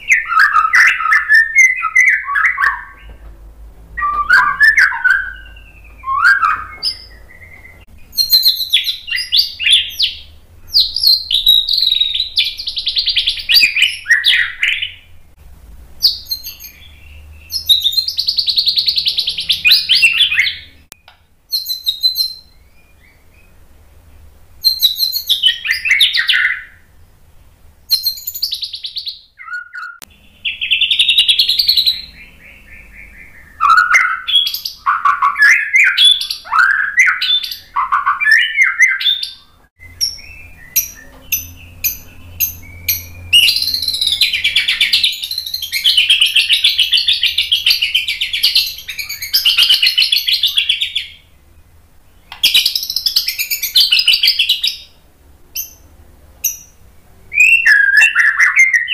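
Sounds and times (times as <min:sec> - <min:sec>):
bird singing whistled phrases: 0:00.0 - 0:03.2, 0:04.0 - 0:15.1, 0:16.0 - 0:23.6, 0:24.6 - 0:26.8, 0:27.9 - 0:51.3, 0:52.2 - 0:55.0, 0:56.5 - 0:58.9.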